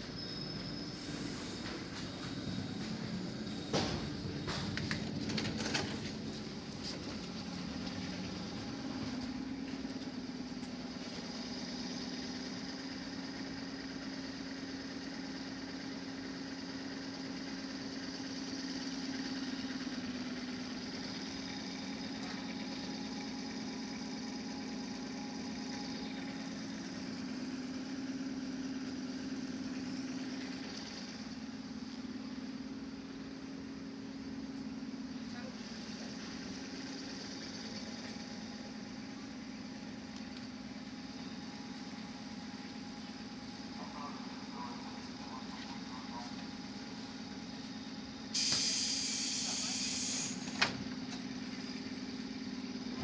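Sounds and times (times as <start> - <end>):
electric train humming: 0.0 - 53.0.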